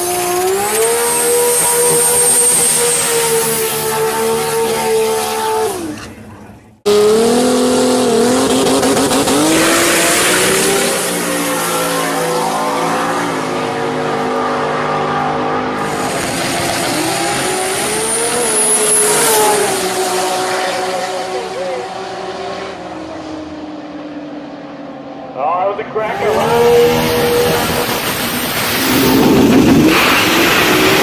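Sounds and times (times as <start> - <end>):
race car engine at high revs: 0.0 - 31.0.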